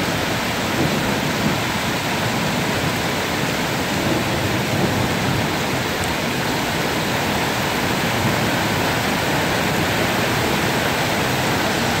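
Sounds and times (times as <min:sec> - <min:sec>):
hail falling on asphalt: 0:00.0 - 0:12.0.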